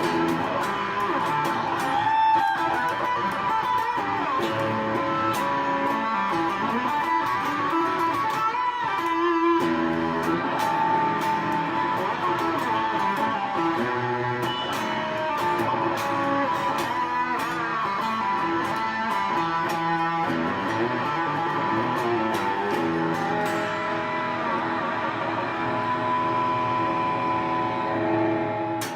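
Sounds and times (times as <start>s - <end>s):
distorted electric guitar chords: 0.0s - 28.9s.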